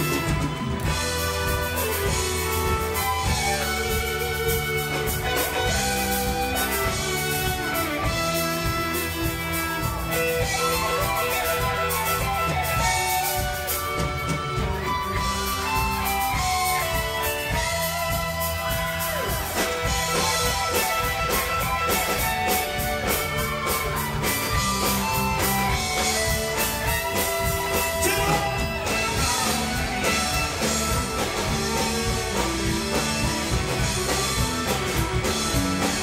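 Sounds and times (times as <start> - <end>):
bass guitar: 0.0 - 36.0
drum kit: 0.0 - 36.0
electric guitar: 0.0 - 36.0
fiddle: 0.0 - 36.0.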